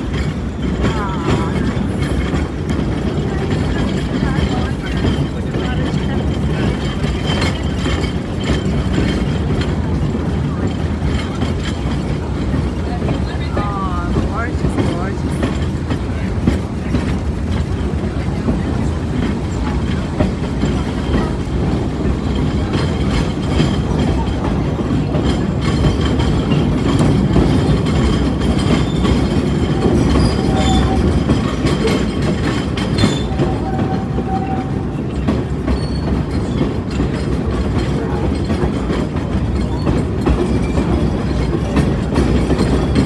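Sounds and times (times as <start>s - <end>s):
train car rumbling on track: 0.0s - 43.0s
wheels clicking over rail joints: 0.0s - 43.0s.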